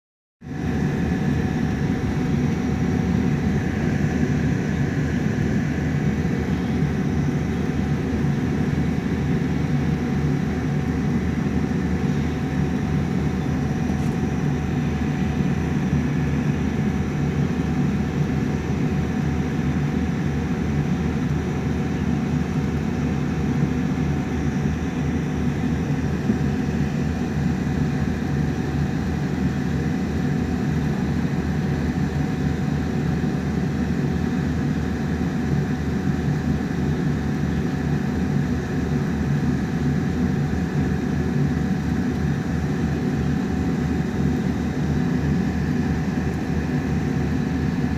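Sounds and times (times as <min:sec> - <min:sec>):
aircraft engines and wheels rumbling: 0:00.4 - 0:47.9
faint steady whine: 0:00.5 - 0:47.9.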